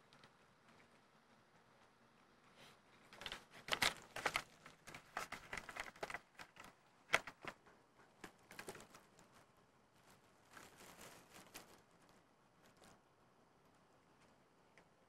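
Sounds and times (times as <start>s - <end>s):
rustling and crackling clicks: 0.0s - 15.0s.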